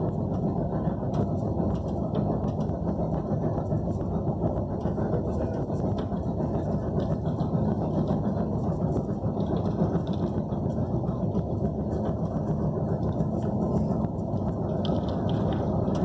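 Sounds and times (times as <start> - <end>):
vehicle rumble from inside cabin: 0.0 - 16.0.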